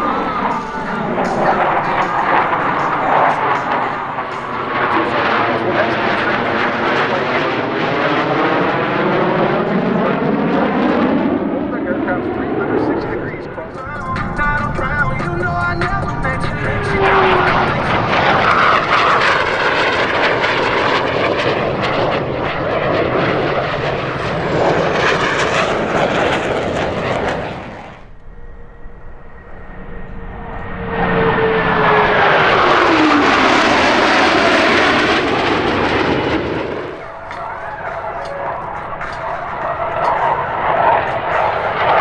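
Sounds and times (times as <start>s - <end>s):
jets flying past: 0.0s - 42.0s.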